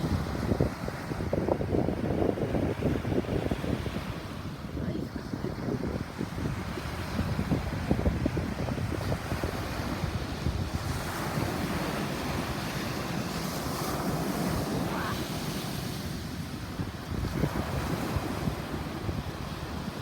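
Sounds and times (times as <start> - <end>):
ocean waves breaking on shore: 0.0 - 20.0
wind buffeting microphone: 0.0 - 20.0.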